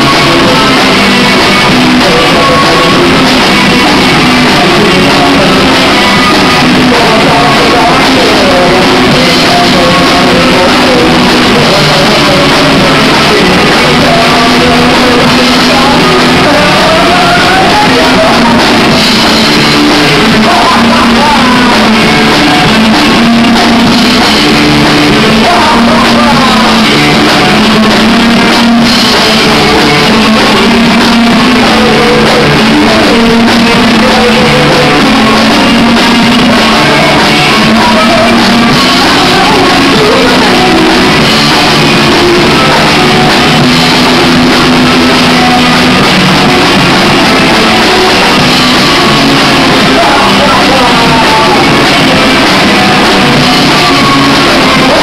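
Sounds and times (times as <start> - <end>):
drums: 0.0 - 55.0
electric guitars: 0.0 - 55.0
person singing: 0.0 - 55.0.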